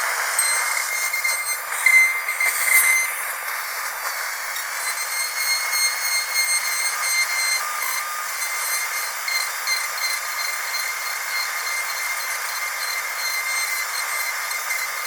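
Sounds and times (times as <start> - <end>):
dentist's drill whining: 0.0 - 15.0.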